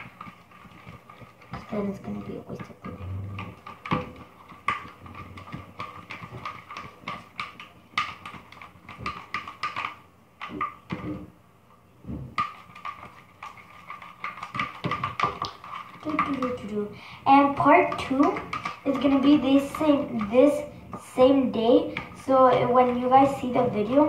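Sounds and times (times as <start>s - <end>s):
utensil stirring slime in plastic cup: 0.0s - 11.3s, 12.3s - 24.0s.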